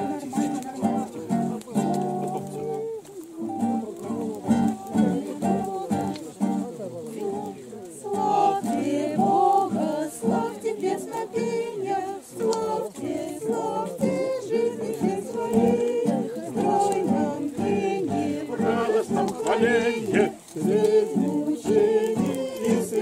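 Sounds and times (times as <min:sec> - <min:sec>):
group singing in unison: 0:00.0 - 0:23.0
strummed acoustic guitar: 0:00.0 - 0:23.0.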